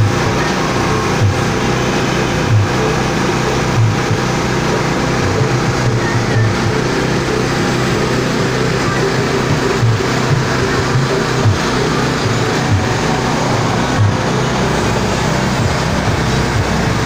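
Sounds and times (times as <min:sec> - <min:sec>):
pellet mill engine running: 0:00.0 - 0:17.0.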